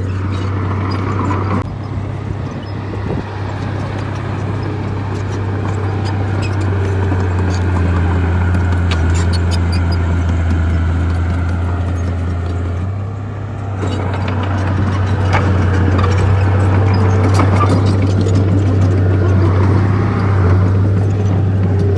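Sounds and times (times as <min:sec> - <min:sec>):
bulldozer diesel engine droning: 0:00.0 - 0:21.9
sharp clicks and knocks: 0:03.4 - 0:13.0, 0:13.7 - 0:21.9.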